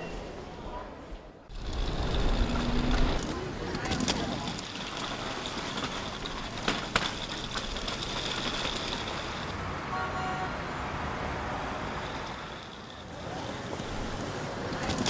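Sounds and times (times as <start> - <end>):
vehicle running noise: 1.5 - 15.0.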